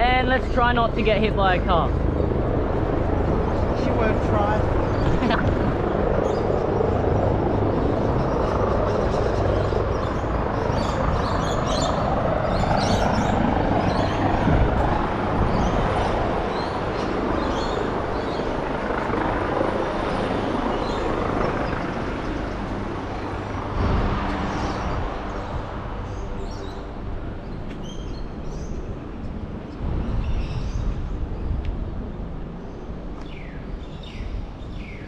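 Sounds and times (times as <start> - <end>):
steady low hum: 0.0 - 34.7
wind buffeting microphone: 0.0 - 35.0.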